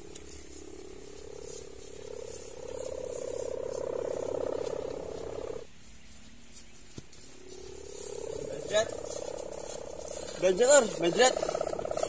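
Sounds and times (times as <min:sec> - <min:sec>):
kite humming bow droning: 0:00.0 - 0:12.0.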